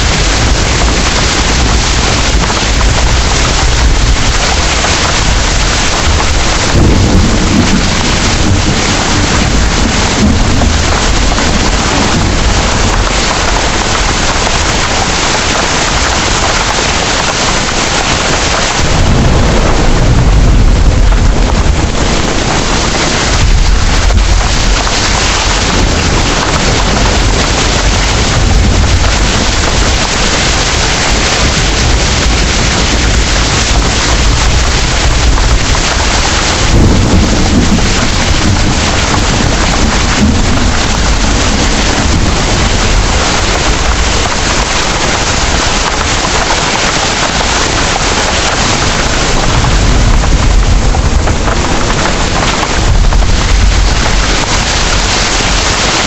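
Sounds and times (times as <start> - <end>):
heavy rain pouring: 0.0 - 56.0
thunder rumbling: 0.0 - 56.0.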